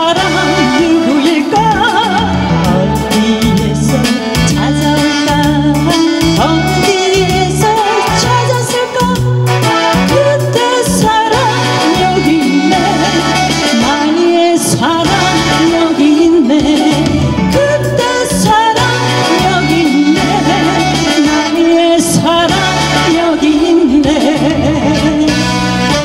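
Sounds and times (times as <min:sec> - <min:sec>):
instrumental accompaniment with bass line: 0:00.0 - 0:26.0
woman singing into microphone: 0:00.0 - 0:26.0.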